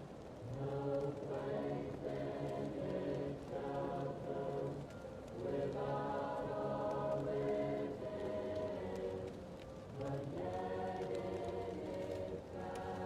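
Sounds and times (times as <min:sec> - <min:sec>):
fireplace crackling: 0:00.0 - 0:13.0
muffled choir singing: 0:00.0 - 0:13.0.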